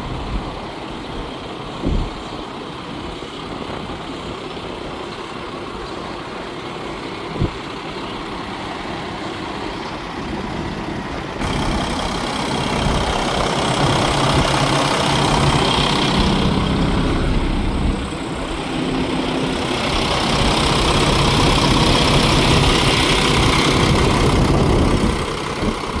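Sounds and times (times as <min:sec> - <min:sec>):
diesel truck engine idling and revving: 0:00.0 - 0:26.0.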